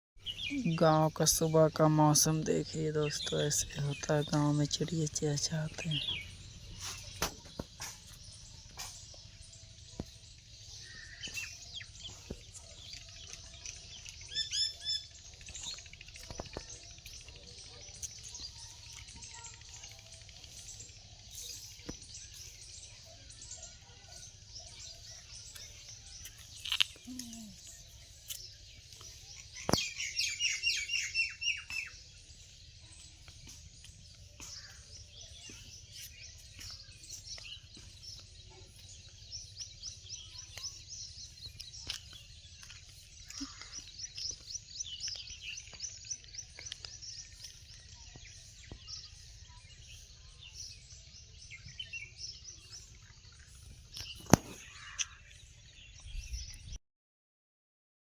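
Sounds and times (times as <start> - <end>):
songbirds chirping: 0.2 - 56.8.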